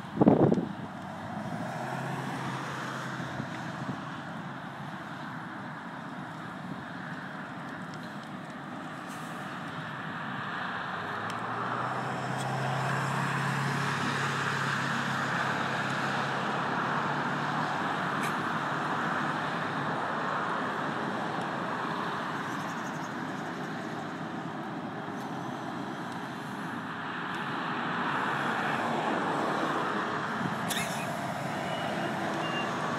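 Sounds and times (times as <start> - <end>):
heavy truck passing: 0.0 - 32.9
vehicles passing on highway: 0.0 - 32.9.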